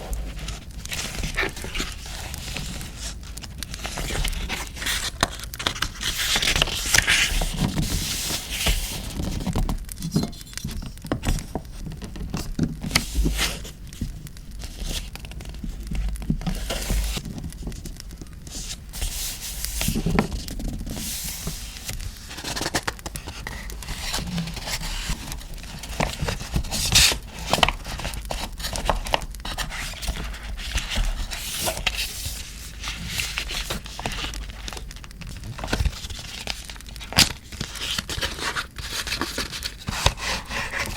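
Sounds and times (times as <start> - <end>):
paper rustling and scraping: 0.0 - 40.9.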